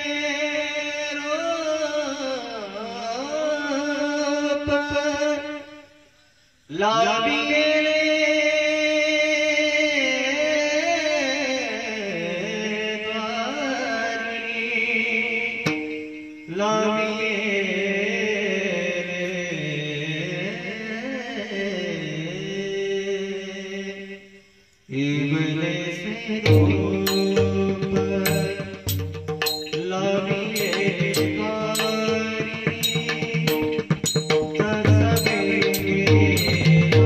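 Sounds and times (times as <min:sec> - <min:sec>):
man singing ornamented phrases: 0:00.0 - 0:06.1, 0:06.7 - 0:37.0.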